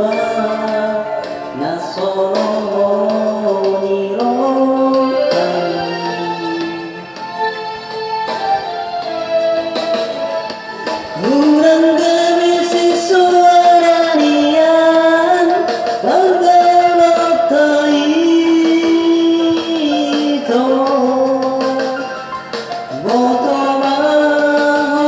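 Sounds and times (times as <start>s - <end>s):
backing music: 0.0s - 25.0s
person singing long notes: 0.0s - 25.0s.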